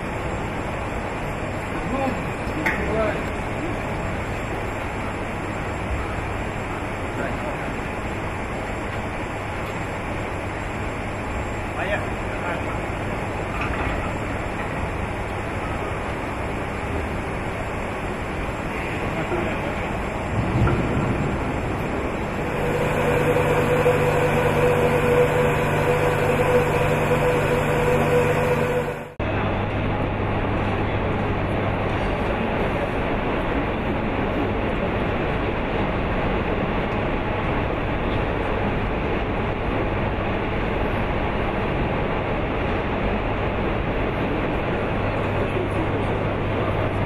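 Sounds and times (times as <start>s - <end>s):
air noise: 0.0s - 47.0s
industrial hall rushing noise: 0.0s - 47.0s
mechanical hum: 0.0s - 47.0s
steady machine whine: 0.0s - 47.0s.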